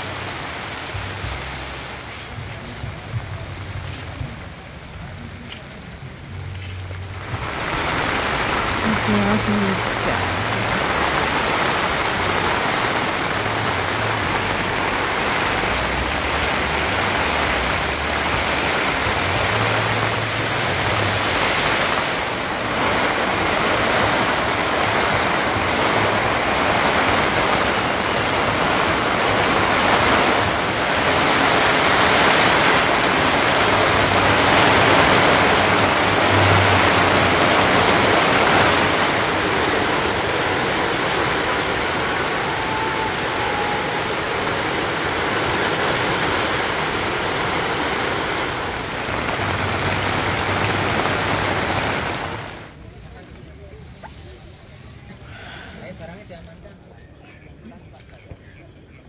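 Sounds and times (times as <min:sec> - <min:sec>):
heavy rain rushing: 0:00.0 - 0:56.4.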